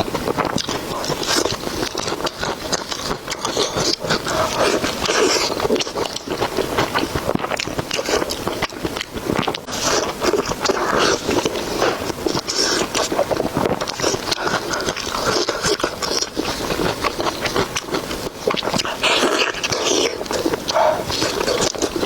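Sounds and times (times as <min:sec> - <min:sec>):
chewing with mouth clicks: 0:00.0 - 0:22.0.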